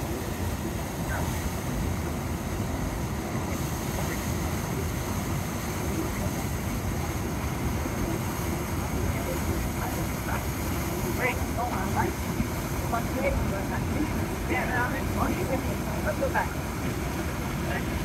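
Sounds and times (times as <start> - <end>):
churning white water: 0.0 - 18.0.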